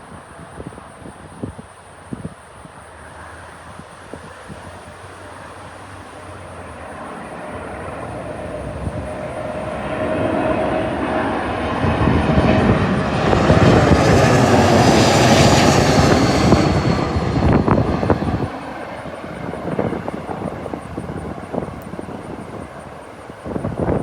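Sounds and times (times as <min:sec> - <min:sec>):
wind buffeting microphone: 0:00.0 - 0:02.8, 0:06.9 - 0:24.0
jet airliner passing overhead: 0:00.0 - 0:24.0.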